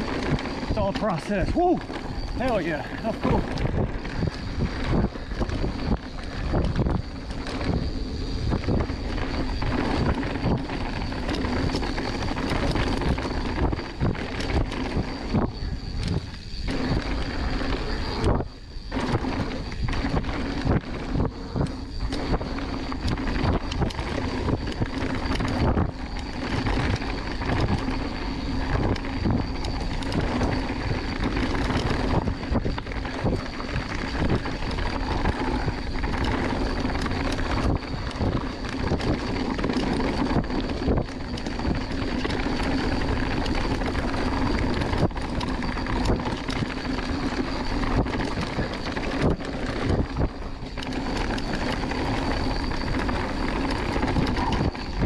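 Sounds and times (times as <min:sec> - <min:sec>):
bike rattling and knocking: 0:00.0 - 0:55.0
bike tyre noise on dirt: 0:00.0 - 0:55.0
wind on microphone: 0:00.0 - 0:55.0.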